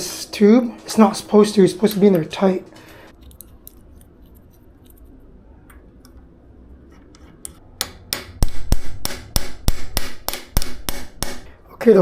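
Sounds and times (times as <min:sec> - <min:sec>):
faint low hum: 0:00.0 - 0:09.7.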